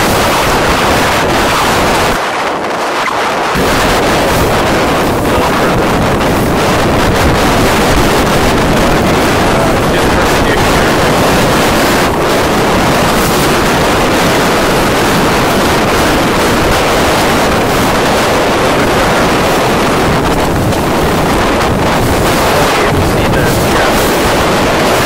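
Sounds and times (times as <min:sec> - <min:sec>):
choppy sea water rushing: 0:00.0 - 0:25.0
wind buffeting microphone: 0:00.0 - 0:25.0.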